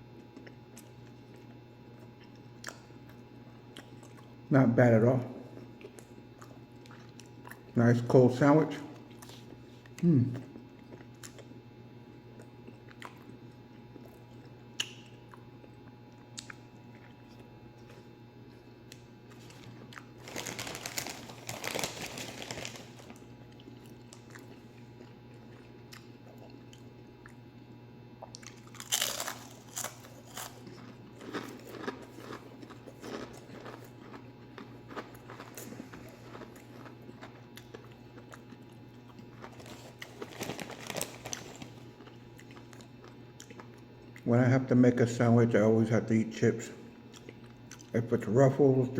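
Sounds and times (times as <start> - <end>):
steady low hum: 0.0 - 48.9
person chewing crunchy chips: 0.2 - 4.5, 5.4 - 8.1, 8.8 - 44.3, 47.0 - 48.0.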